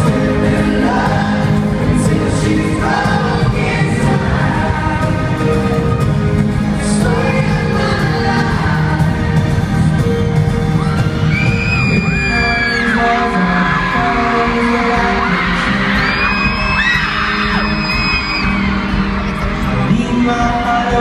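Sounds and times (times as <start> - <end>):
crowd singing along: 0.0 - 11.2, 11.9 - 17.7
live pop band and singers: 0.0 - 21.0.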